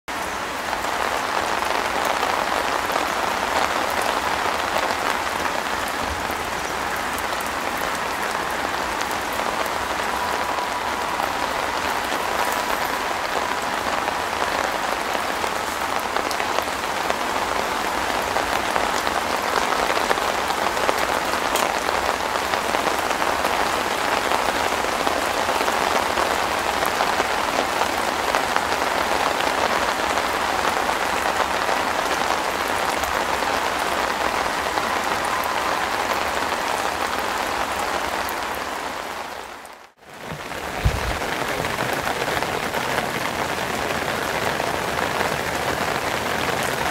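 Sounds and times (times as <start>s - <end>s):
rain on fabric roof: 0.0s - 46.9s
individual raindrops: 0.1s - 46.9s.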